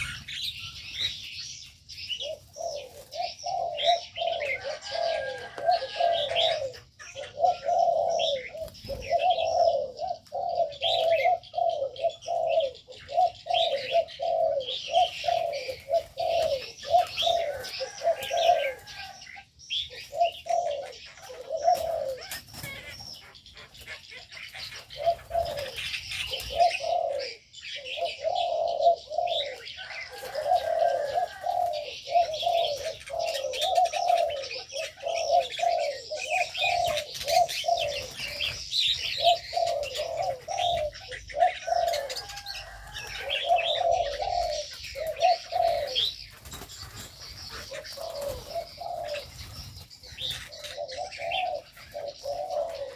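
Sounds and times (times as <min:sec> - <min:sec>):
birds chirping: 0:00.0 - 0:52.9
birds cooing: 0:00.0 - 0:52.9.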